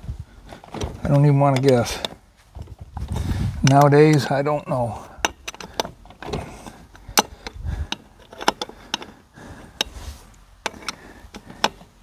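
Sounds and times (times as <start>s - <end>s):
dull thuds: 0.0s - 12.0s
hand tools clinking: 0.4s - 12.0s.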